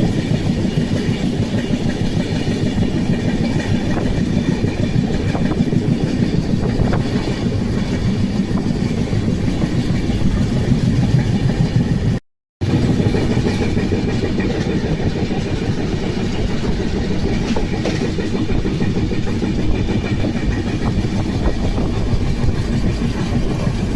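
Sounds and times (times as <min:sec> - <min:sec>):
train wheels on rails: 0:00.0 - 0:23.9.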